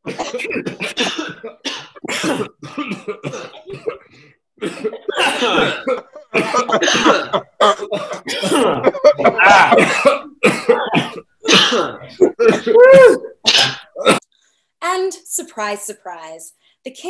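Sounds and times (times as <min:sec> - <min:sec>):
people coughing: 0:00.0 - 0:14.2.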